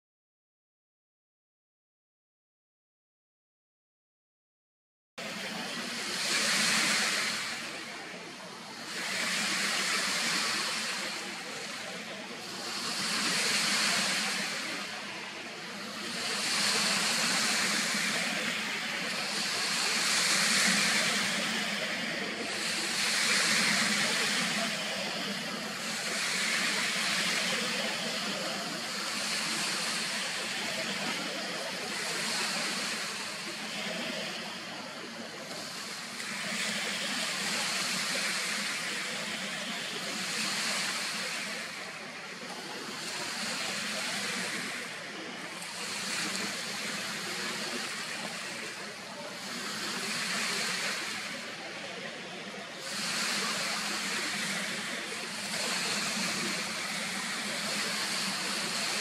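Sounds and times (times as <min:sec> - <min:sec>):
waves washing on a shore: 0:05.2 - 0:59.0.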